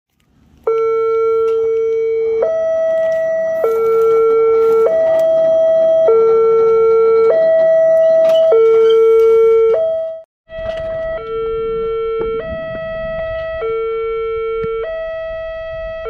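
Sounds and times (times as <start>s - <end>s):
two-tone level-crossing alarm: 0.6s - 16.0s.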